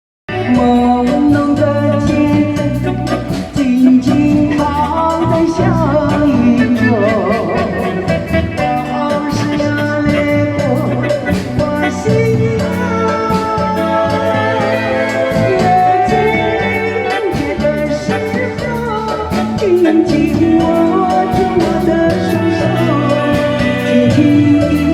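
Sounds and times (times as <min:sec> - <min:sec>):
person singing with vibrato: 0:00.3 - 0:24.9
pop backing track with drums and bass: 0:00.3 - 0:24.9.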